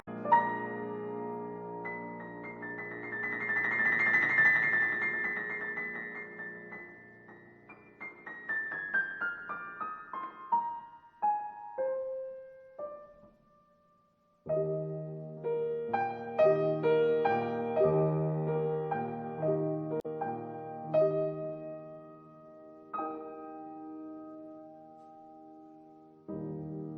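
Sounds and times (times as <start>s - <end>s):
background piano music: 0.0s - 26.9s.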